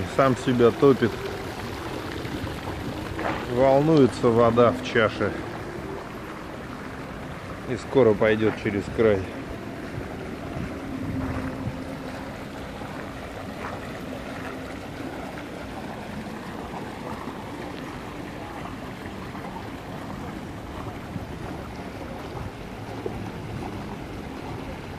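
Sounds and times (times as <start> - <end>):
fountain water bubbling and gurgling: 0.0 - 24.9.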